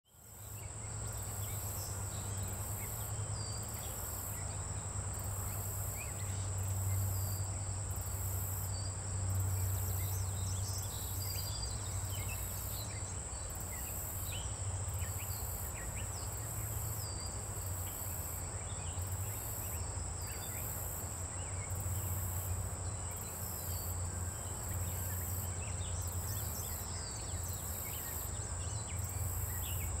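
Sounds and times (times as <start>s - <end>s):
insect chorus shrill drone: 0.2s - 30.0s.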